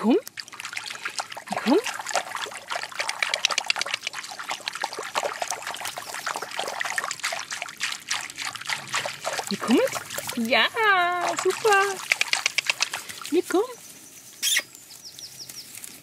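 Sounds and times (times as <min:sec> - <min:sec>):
puppies lapping water: 0:00.0 - 0:13.7.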